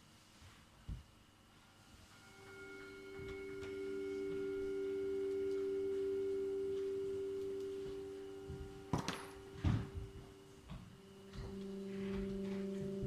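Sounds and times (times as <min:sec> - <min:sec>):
sustained ringing tone: 0:01.8 - 0:13.0.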